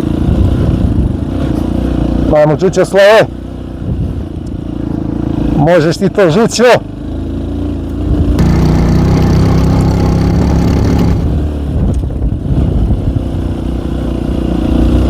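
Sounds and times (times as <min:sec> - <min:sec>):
motorcycle engine pulling hard: 0:00.0 - 0:15.0.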